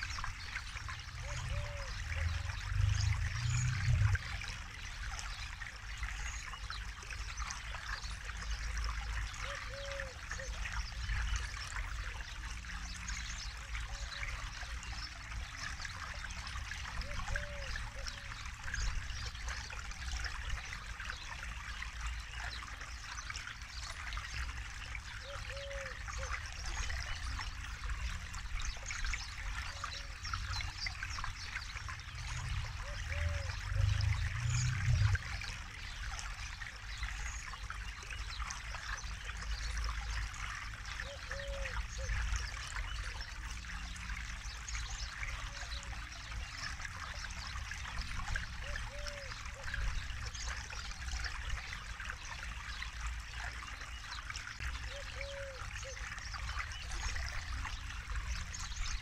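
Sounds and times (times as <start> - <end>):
river babbling over its bed: 0.0 - 59.0.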